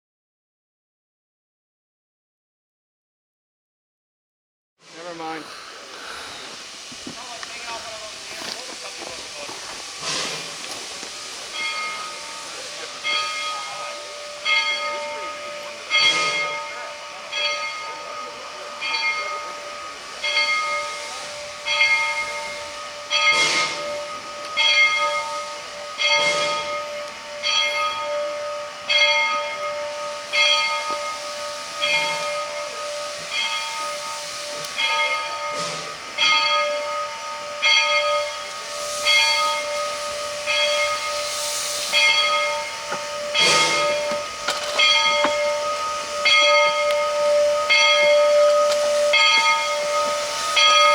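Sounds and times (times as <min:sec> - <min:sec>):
steam hissing: 0:04.8 - 0:50.9
locomotive bell ringing: 0:07.2 - 0:50.9.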